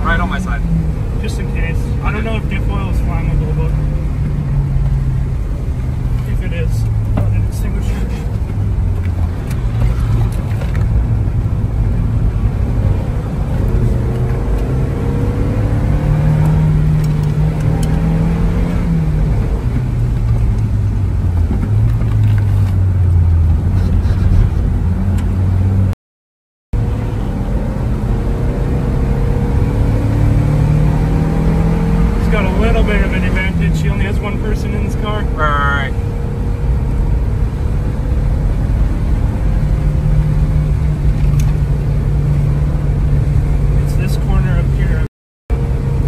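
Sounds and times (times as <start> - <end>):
car engine accelerating: 0.0 - 26.0, 26.8 - 46.0
road rumble: 0.0 - 26.0, 26.8 - 46.0.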